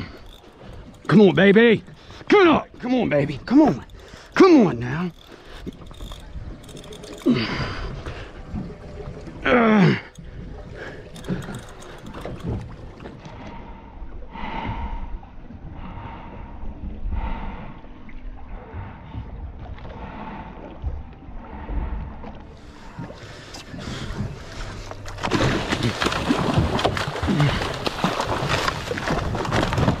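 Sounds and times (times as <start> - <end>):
low rumble of wind and water: 0.0 - 30.0.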